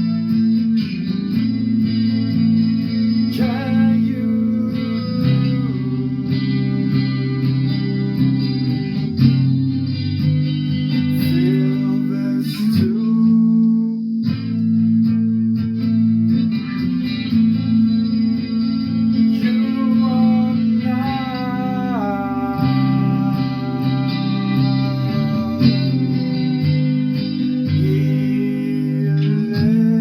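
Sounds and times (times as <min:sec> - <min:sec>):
guitar chords with sliding notes: 0:00.0 - 0:30.0.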